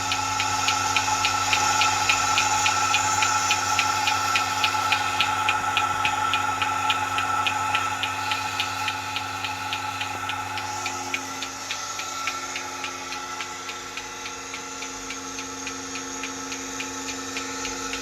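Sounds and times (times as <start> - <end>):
pulsator clicking rapidly: 0.0 - 18.0
vacuum pump humming: 0.0 - 18.0.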